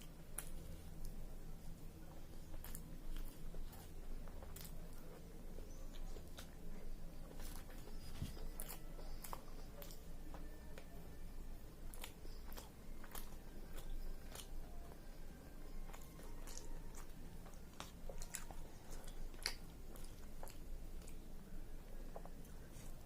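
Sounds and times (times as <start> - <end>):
wet chewing smacks: 0.0 - 10.9, 11.8 - 23.0.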